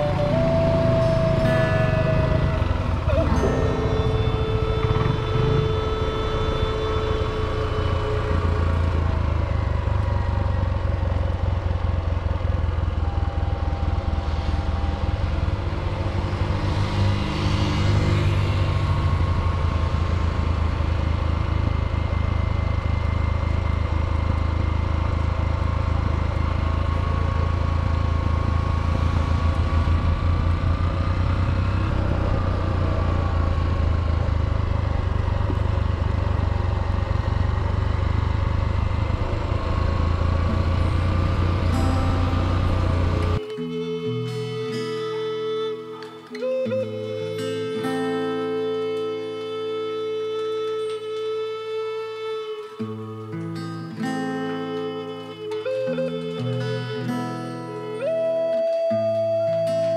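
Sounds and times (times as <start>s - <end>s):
motorcycle engine humming: 0.0s - 59.9s.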